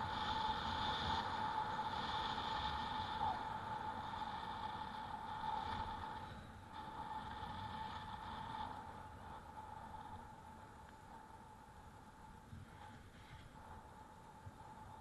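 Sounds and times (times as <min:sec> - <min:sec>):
electric bike motor whine: 0:00.0 - 0:15.0
road rumble: 0:00.0 - 0:15.0
wind: 0:00.0 - 0:15.0.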